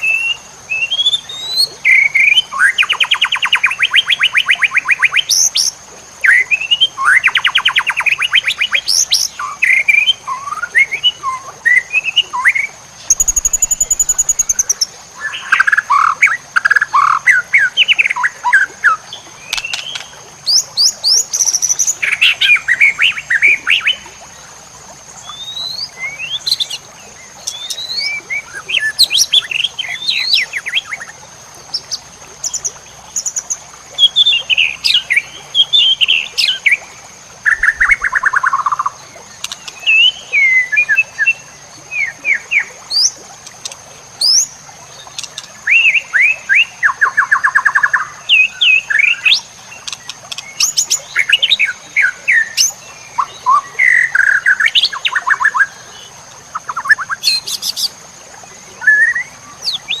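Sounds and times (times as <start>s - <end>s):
songbird singing: 0.0s - 60.0s.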